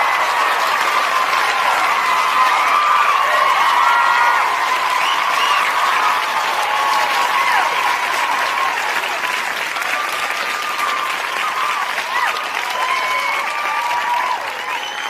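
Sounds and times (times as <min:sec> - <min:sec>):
crowd clapping: 0:00.0 - 0:15.0
crowd shouting and whooping: 0:00.0 - 0:15.0.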